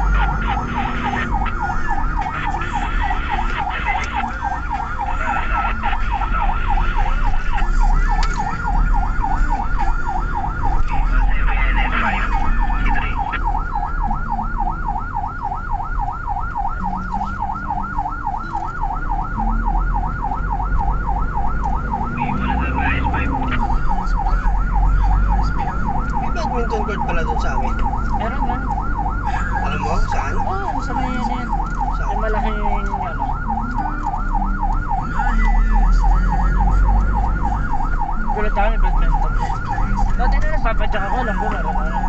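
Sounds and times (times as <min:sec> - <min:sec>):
siren yelping: 0:00.0 - 0:42.0
vehicle engine and road noise: 0:00.0 - 0:42.0.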